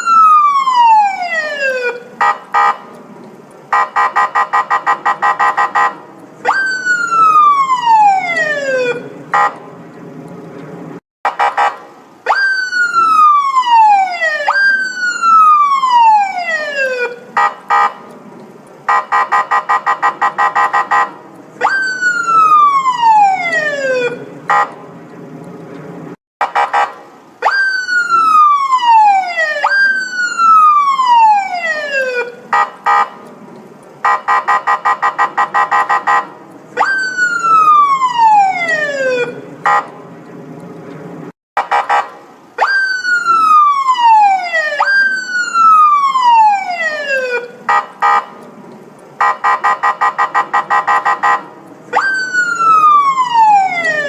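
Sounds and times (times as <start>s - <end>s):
police siren: 0.0s - 3.0s, 3.7s - 9.7s, 11.2s - 18.1s, 18.8s - 24.8s, 26.4s - 33.3s, 34.0s - 40.0s, 41.6s - 48.4s, 49.2s - 54.0s.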